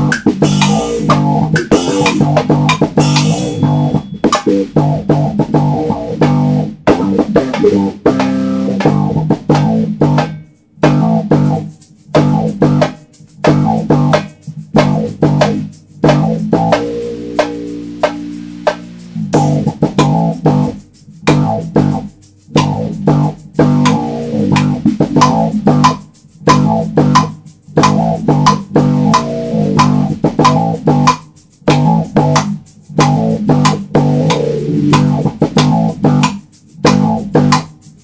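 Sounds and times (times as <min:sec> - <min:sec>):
bass guitar and guitar riff: 0:00.0 - 0:38.0
sharp percussive hits: 0:00.0 - 0:38.0.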